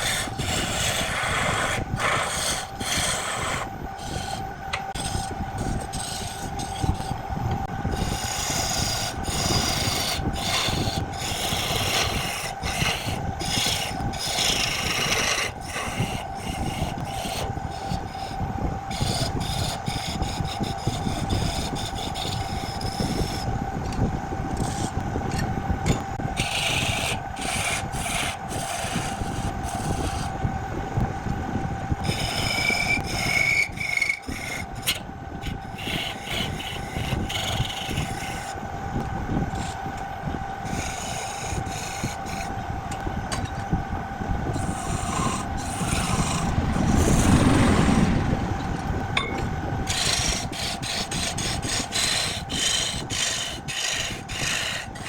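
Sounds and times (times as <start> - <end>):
turning tool scraping wood: 0.0 - 30.4, 32.0 - 38.6, 39.5 - 40.0, 40.6 - 43.7, 44.5 - 55.0
wood lathe humming: 0.0 - 55.0.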